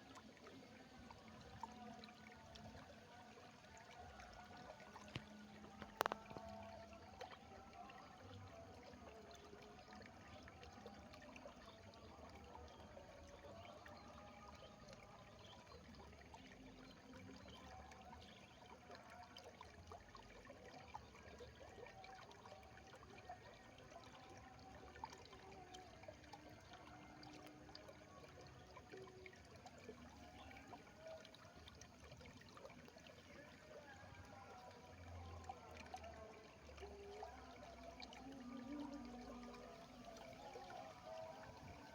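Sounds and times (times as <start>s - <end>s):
water trickling with splashes: 0.0s - 41.9s.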